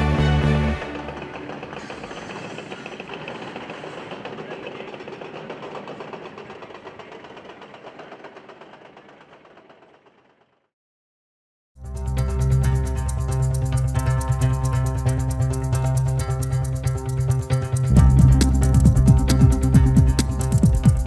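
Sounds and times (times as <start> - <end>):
rapid mechanical clatter: 0.8 - 10.7, 12.5 - 21.0.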